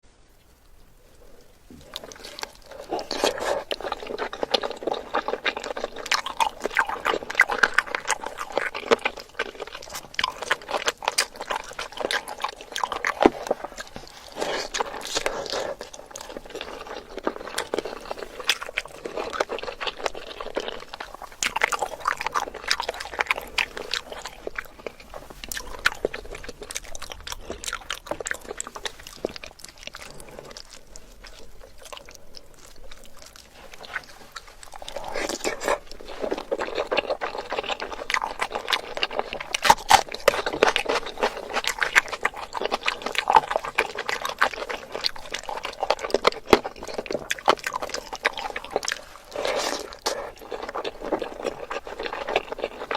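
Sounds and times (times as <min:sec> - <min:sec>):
wet smacking chewing: 0:00.4 - 0:52.9.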